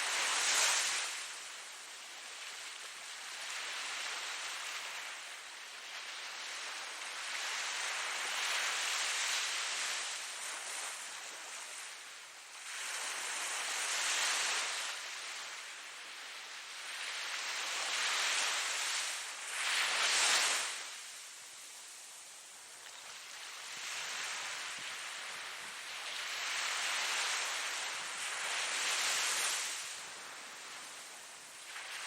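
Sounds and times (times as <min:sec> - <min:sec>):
ocean waves washing onto shore: 0:00.0 - 0:32.0.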